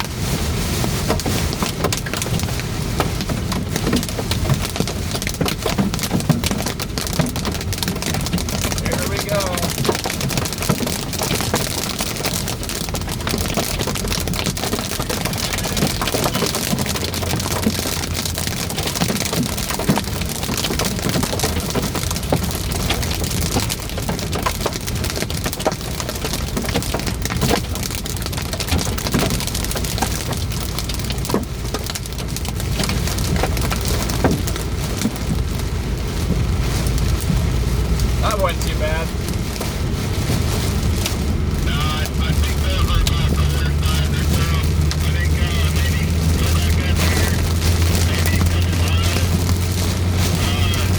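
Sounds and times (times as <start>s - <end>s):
hailstones striking car: 0.0s - 50.9s
heavy rain on a car: 0.0s - 50.9s.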